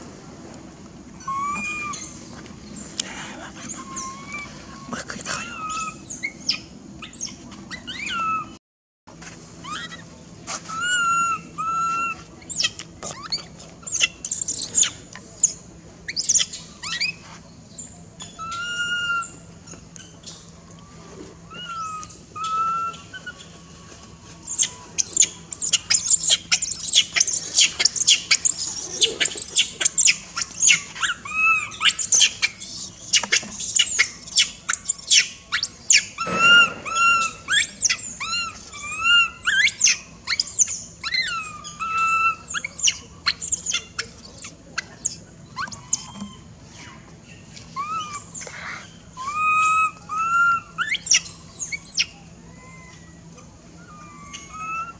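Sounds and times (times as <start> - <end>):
rapid high squeaks and chirps: 1.2 - 2.9, 9.6 - 23.6, 24.3 - 47.0, 47.7 - 54.9
baby monkeys cooing: 1.2 - 8.6, 9.6 - 54.9.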